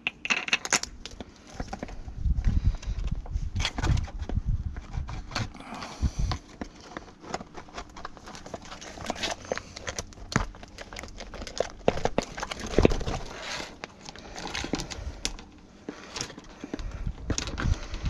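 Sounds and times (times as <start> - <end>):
crinkling: 0.0 - 18.0
hands dismantling electric fan: 0.0 - 18.0.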